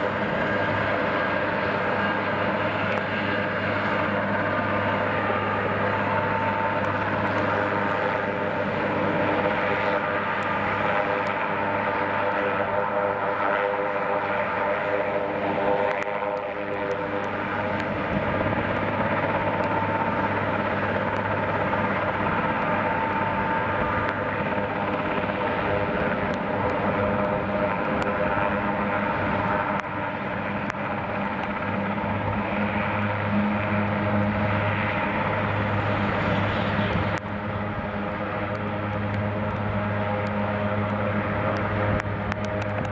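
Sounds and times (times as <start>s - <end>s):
helicopter rotor noise: 0.0s - 42.9s
helicopter turbine whine: 0.0s - 42.9s.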